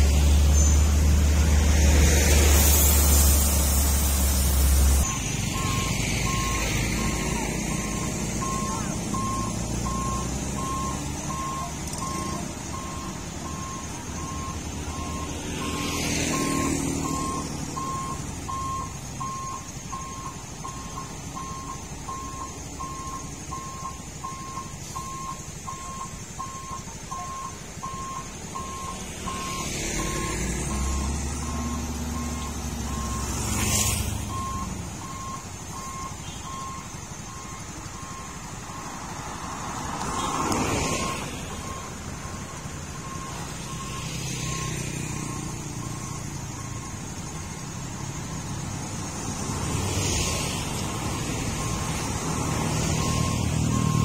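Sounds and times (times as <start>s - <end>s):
diesel engine rumble: 0.0s - 54.0s
truck reversing alarm beeps: 0.0s - 54.0s
vehicles passing: 0.0s - 54.0s.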